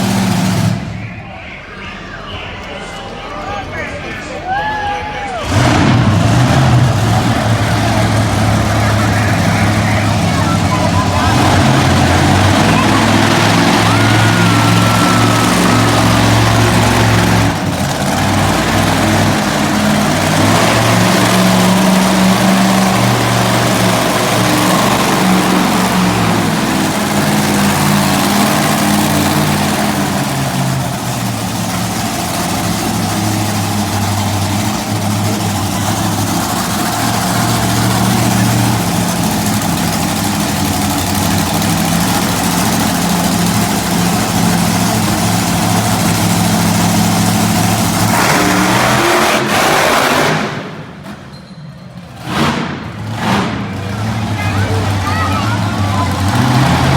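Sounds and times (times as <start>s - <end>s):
monster truck engines revving: 0.0s - 56.9s.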